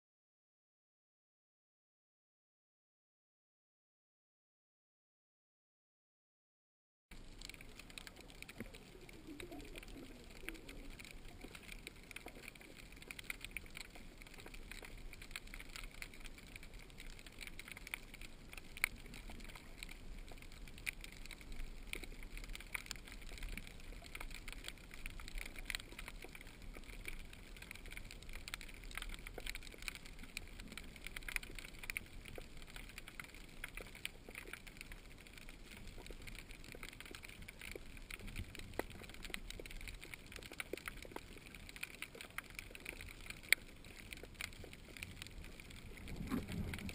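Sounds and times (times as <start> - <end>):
underwater hiss with crackling clicks: 7.2 - 46.9.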